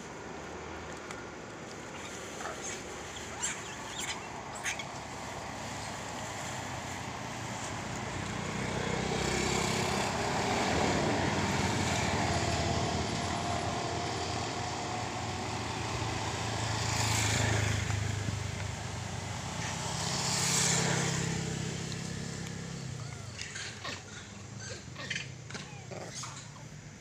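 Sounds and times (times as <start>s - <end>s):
passing traffic engine drone: 0.0s - 27.0s.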